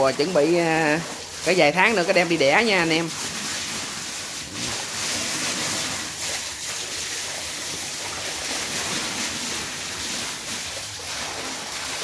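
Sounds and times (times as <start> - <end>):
water running into a tank: 0.0 - 12.0.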